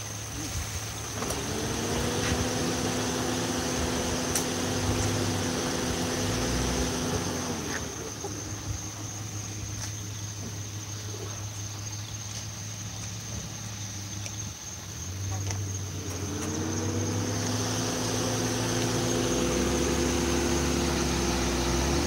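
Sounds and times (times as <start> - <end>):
engine idling drone: 0.0 - 22.0.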